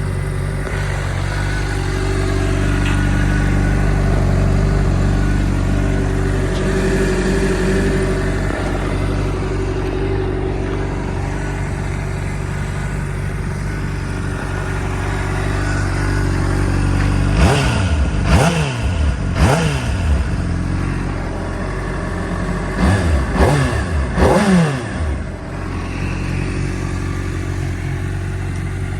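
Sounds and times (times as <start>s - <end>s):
engine revving blips: 0.0s - 20.4s, 22.7s - 27.2s
motorcycle engine idling: 0.0s - 28.9s.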